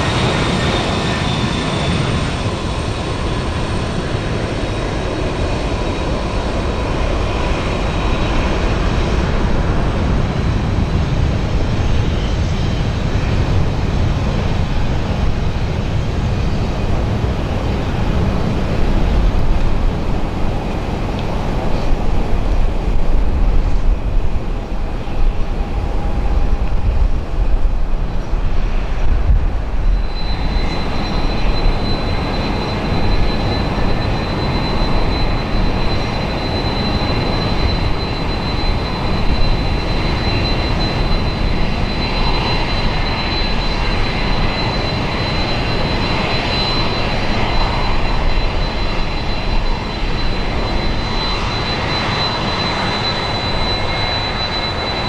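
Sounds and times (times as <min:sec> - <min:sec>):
high-pitched whine: 0:00.0 - 0:55.0
jet engines running: 0:00.0 - 0:55.0.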